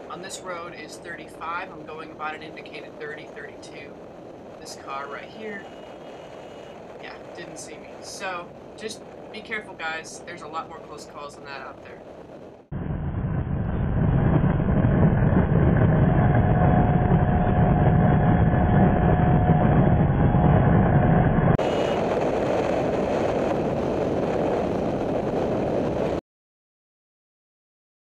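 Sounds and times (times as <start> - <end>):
wind rush on microphone: 0.0 - 26.2.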